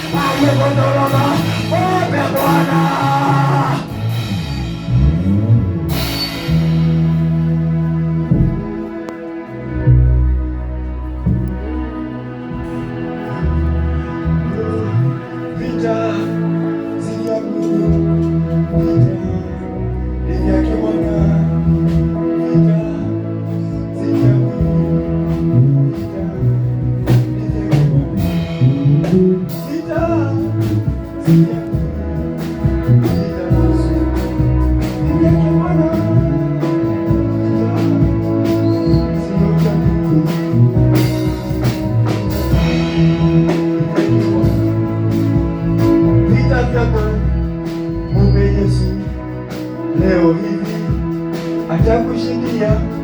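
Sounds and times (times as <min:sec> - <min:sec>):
person singing: 0:00.0 - 0:05.4, 0:10.7 - 0:53.0
bass line: 0:00.0 - 0:53.0
keyboard chords: 0:00.0 - 0:53.0.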